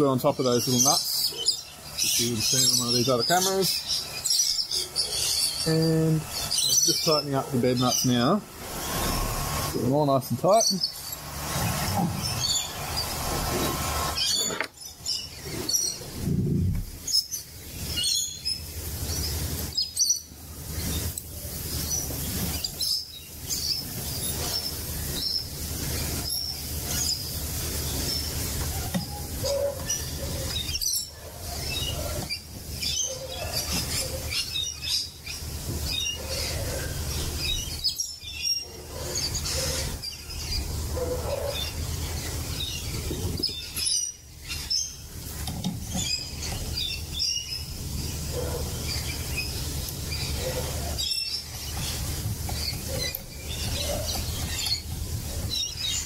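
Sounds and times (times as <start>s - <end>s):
parrots chirping and screeching: 0.0s - 56.0s.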